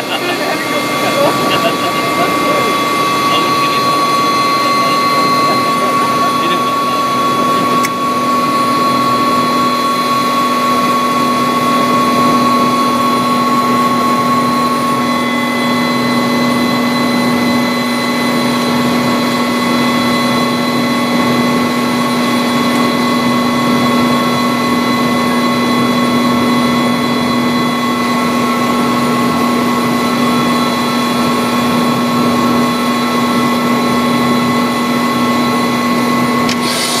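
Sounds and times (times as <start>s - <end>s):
helicopter rotor rushing noise: 0.0s - 37.0s
helicopter turbine whine: 0.0s - 37.0s.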